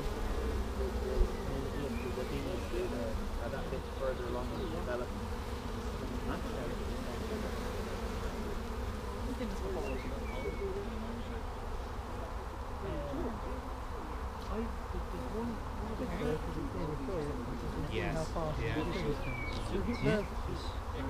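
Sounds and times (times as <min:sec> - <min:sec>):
bees buzzing in flight: 0:00.0 - 0:21.0.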